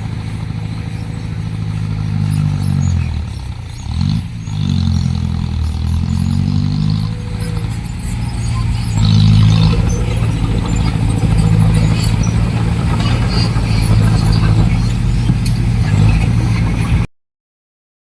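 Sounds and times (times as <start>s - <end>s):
heavy diesel engine running: 0.0s - 17.1s.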